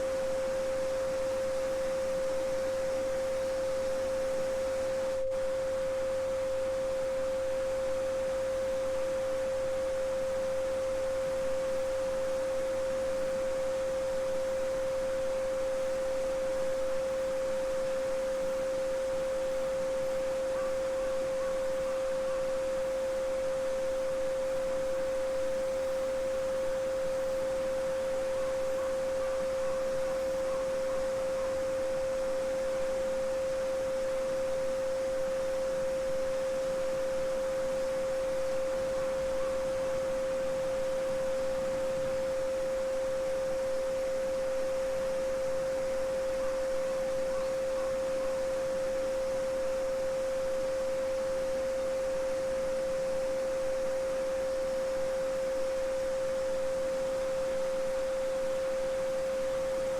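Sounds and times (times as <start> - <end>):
steady pure tone: 0.0 - 59.9.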